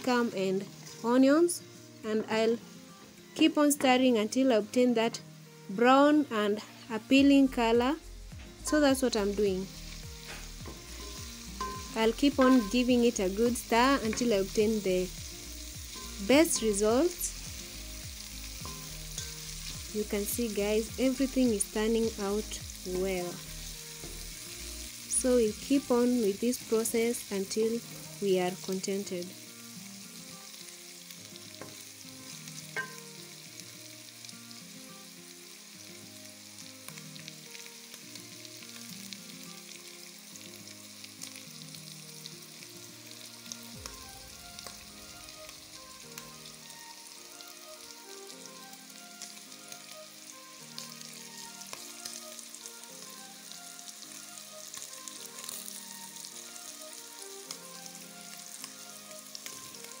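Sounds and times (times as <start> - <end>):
food sizzling in hot oil: 0.0 - 60.0.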